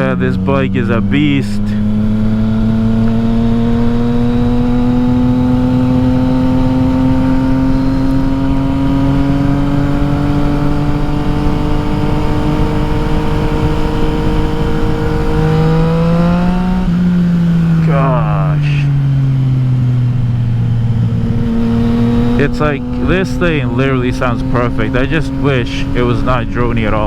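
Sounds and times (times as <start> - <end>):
motorcycle engine droning: 0.0 - 27.0.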